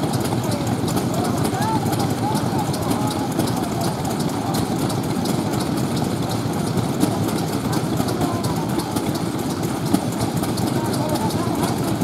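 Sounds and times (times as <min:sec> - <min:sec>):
stationary engine chugging: 0:00.0 - 0:12.0.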